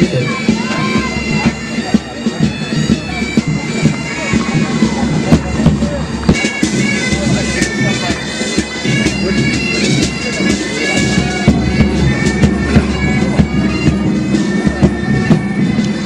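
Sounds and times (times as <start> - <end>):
bagpipes playing melody: 0.0 - 16.0
drum beats: 0.0 - 16.0.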